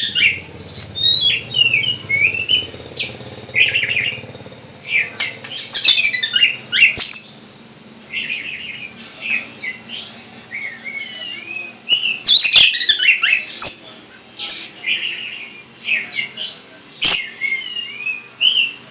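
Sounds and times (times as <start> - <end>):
songbird singing: 0.0 - 18.8.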